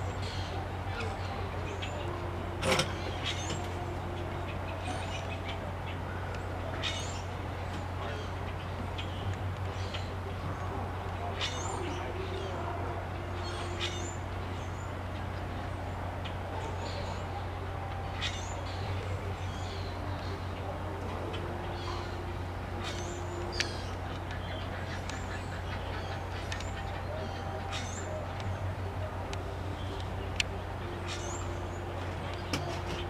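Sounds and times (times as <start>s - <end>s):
birds calling: 0.0s - 33.0s
steady low hum: 0.0s - 33.0s.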